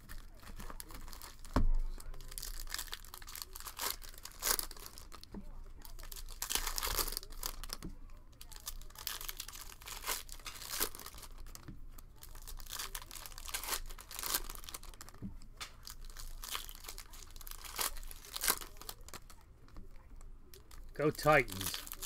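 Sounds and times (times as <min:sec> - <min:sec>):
cellophane wrapper crinkling and tearing: 0:00.0 - 0:22.0.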